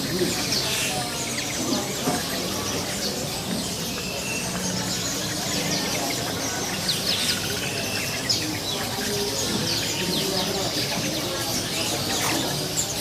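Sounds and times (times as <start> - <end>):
low background murmur: 0.0 - 13.0
songbirds chirping and twittering: 0.0 - 13.0.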